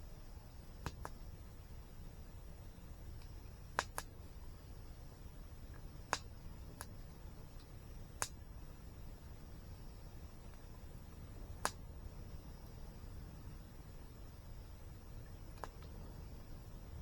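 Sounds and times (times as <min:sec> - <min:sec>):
campfire crackling and popping: 0:00.5 - 0:17.0.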